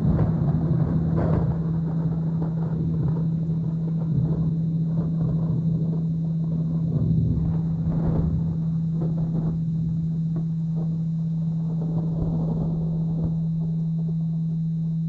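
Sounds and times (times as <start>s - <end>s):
rain: 0.0s - 15.0s
rolling thunder: 0.0s - 15.0s
steady binaural beat tone: 0.0s - 15.0s.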